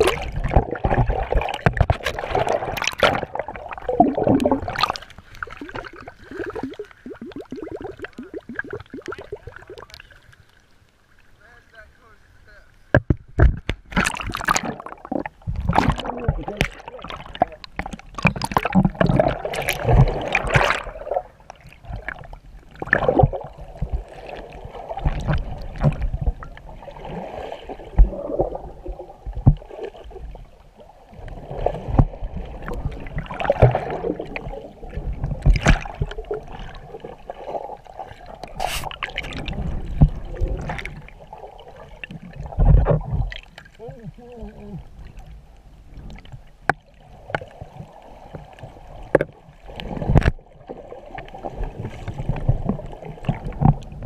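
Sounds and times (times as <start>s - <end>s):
water gurgling and sloshing: 0.0s - 54.0s.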